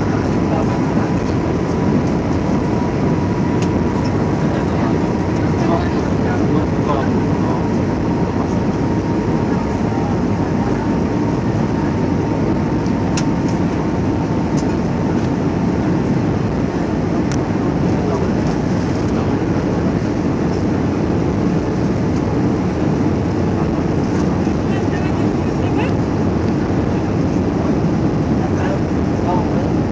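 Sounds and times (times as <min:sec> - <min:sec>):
aircraft cabin engine rumble: 0:00.0 - 0:29.9.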